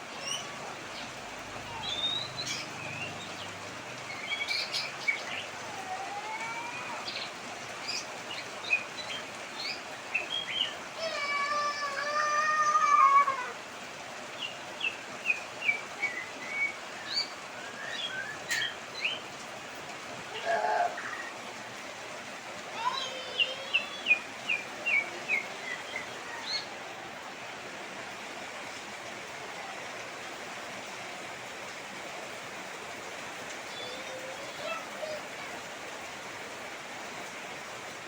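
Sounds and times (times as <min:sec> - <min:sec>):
heavy rain hissing: 0:00.0 - 0:38.0.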